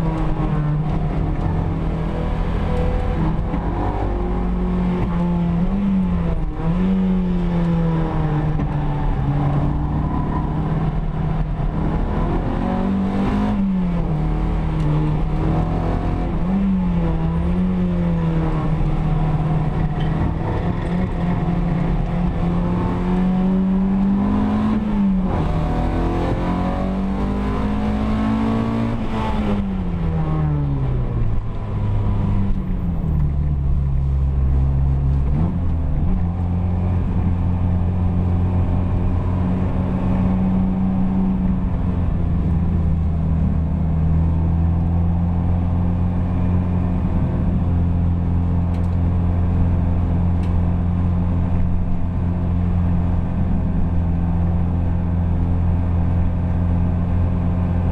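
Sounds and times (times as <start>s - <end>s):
car engine from inside cabin: 0.0s - 57.9s.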